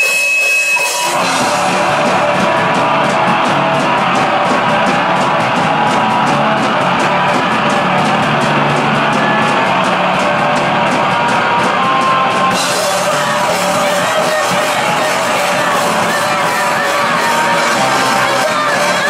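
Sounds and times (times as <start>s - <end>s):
distorted punk band playing: 0.0s - 19.0s.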